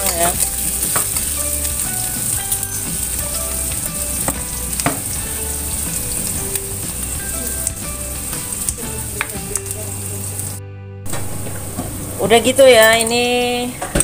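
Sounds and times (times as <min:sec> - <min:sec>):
vegetables sizzling in hot oil: 0:00.0 - 0:13.6
frying oil clicks: 0:00.0 - 0:14.0.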